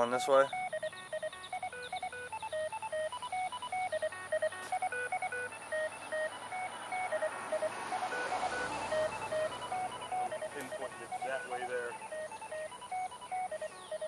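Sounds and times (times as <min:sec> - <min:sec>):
short beeps jumping in pitch: 0:00.0 - 0:14.0.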